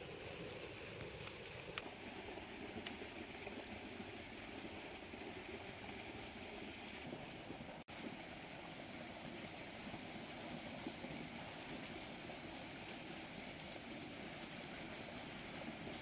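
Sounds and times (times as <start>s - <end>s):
stream rushing over a drop: 0.0s - 16.0s.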